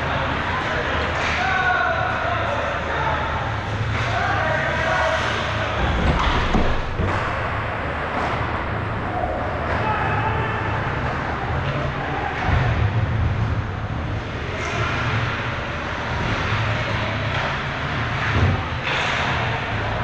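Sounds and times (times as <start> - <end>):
low rink rumble: 0.0 - 20.0.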